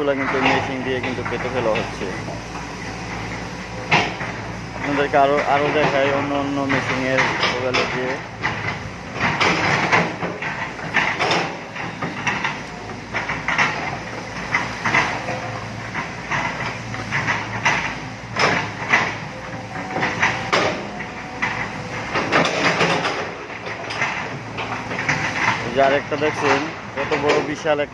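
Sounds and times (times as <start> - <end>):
excavator diesel engine drone: 0.0 - 27.9
metal clanks and knocks: 0.0 - 27.9.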